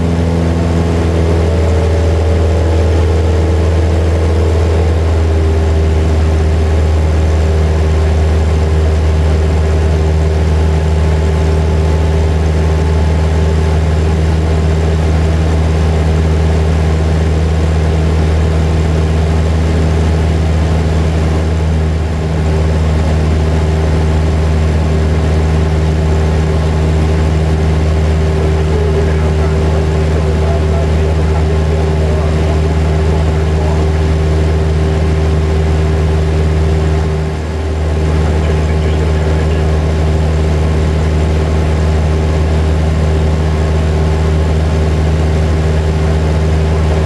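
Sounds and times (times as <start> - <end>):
propeller plane engine drone: 0.0 - 47.0.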